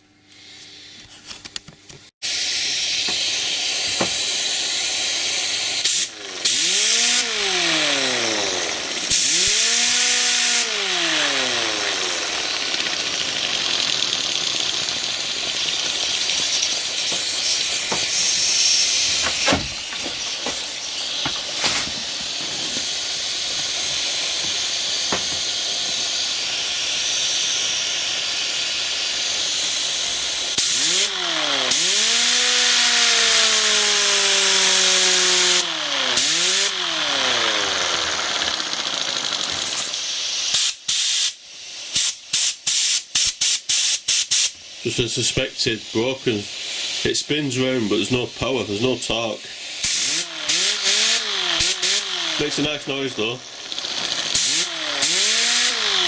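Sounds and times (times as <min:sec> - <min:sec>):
compressed air hissing: 0:02.2 - 0:09.9, 0:11.5 - 0:32.1, 0:37.4 - 0:56.0
air sander motor whining: 0:02.2 - 0:40.6, 0:48.5 - 0:56.0.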